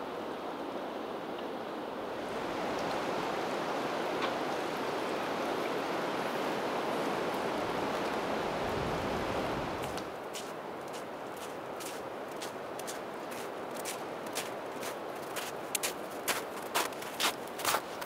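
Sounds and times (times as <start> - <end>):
creek water rushing: 1.8 - 18.0.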